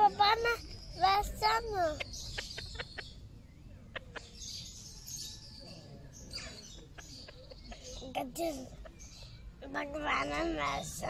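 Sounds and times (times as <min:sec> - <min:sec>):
faint small birds chirping: 0:00.0 - 0:11.0.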